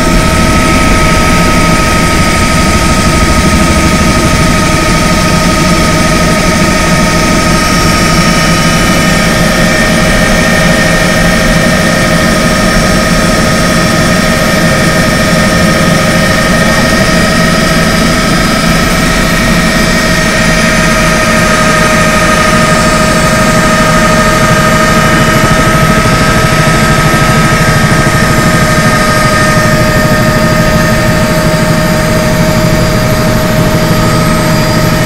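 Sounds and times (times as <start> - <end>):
helicopter engine and rotor drone: 0.0 - 35.0.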